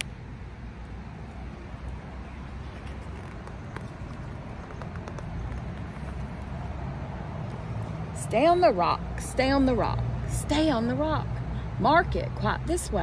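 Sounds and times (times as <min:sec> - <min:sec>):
distant street traffic rumble: 0:00.0 - 0:13.0.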